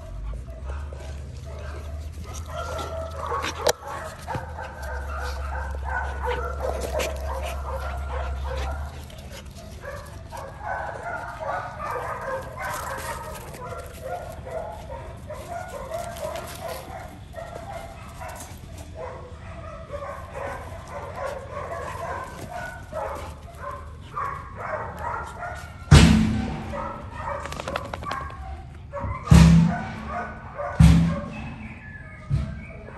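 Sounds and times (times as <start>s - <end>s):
dogs yipping and barking: 0.0s - 32.9s.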